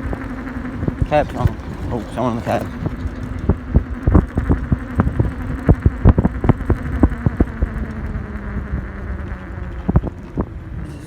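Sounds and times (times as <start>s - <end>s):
electric bike knocking and rattling: 0.0s - 11.0s
low electric motor hum: 0.0s - 11.0s
wind on microphone: 0.0s - 11.0s.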